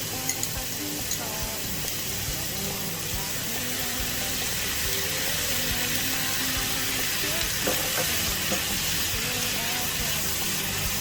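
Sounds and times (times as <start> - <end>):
stir-fry sizzling in a pan: 0.0 - 11.0.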